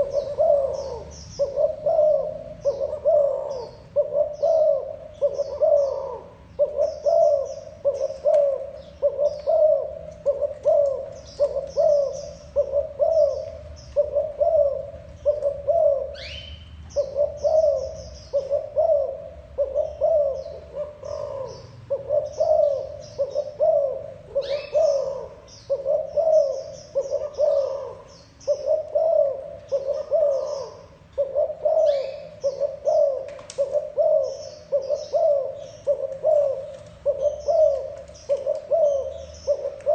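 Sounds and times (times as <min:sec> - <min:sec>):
dove cooing: 0:00.0 - 0:39.9
small birds chirping faintly: 0:00.0 - 0:39.9.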